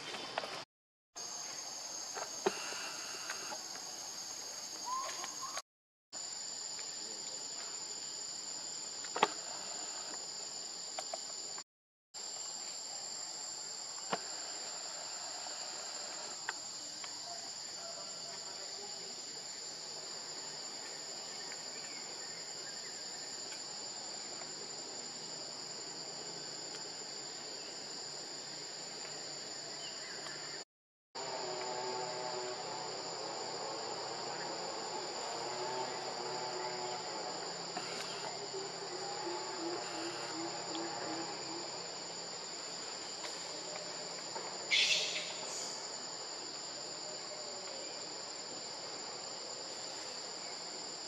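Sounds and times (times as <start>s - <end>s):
insects buzzing: 1.2s - 5.6s, 12.2s - 30.6s, 31.2s - 51.0s.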